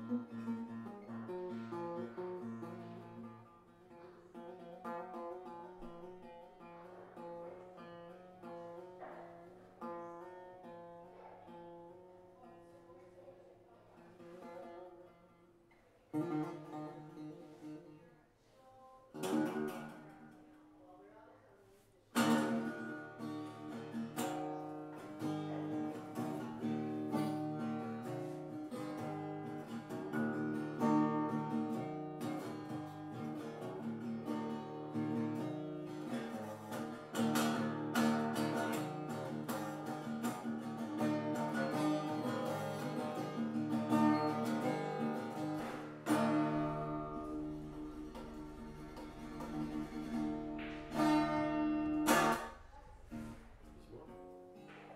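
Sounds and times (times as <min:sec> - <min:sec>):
acoustic guitar plucked and strummed: 0:00.0 - 0:18.1, 0:19.1 - 0:21.0, 0:22.1 - 0:54.9.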